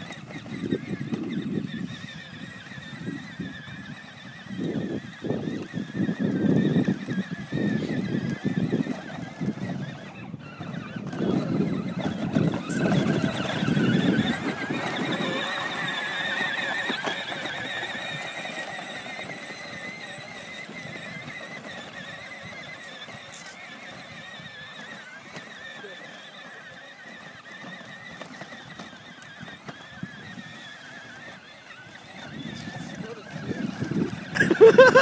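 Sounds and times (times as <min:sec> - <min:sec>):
electric toy motor whine: 0:00.0 - 0:35.0.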